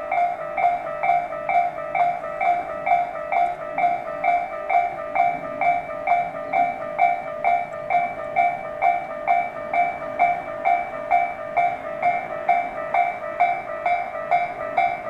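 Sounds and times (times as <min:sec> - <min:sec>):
level crossing warning bell ringing: 0:00.0 - 0:15.0.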